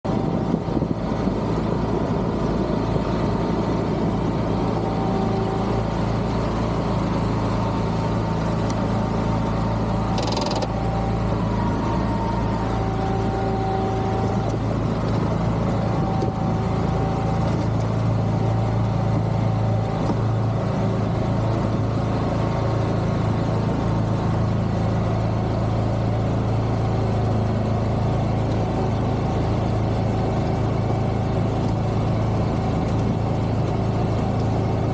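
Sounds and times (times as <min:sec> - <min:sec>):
amphibious vehicle engine humming: 0:00.0 - 0:34.9.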